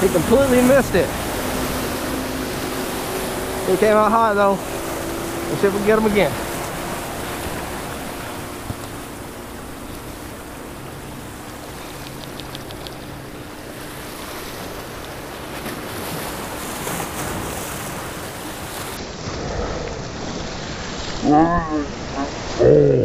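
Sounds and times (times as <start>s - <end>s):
surf breaking over rocks: 0.0s - 22.7s.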